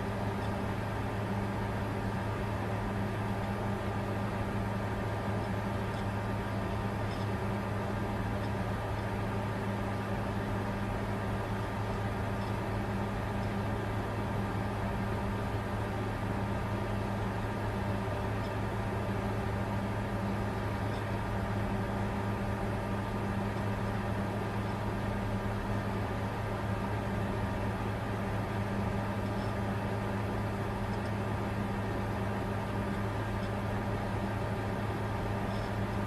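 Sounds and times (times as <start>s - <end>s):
computer running hum: 0.0s - 36.0s.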